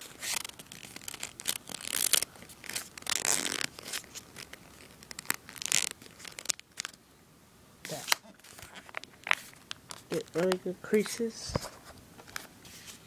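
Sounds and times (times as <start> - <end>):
paper crinkling and rustling: 0.0 - 7.0, 7.9 - 13.0.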